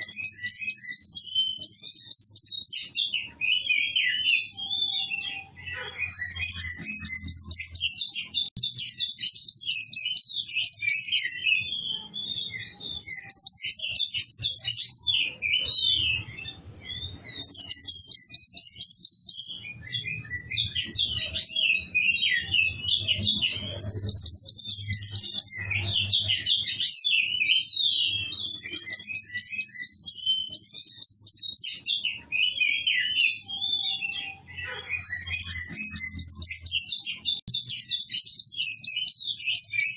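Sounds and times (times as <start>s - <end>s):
songbird trilling and twittering: 0.0s - 39.9s.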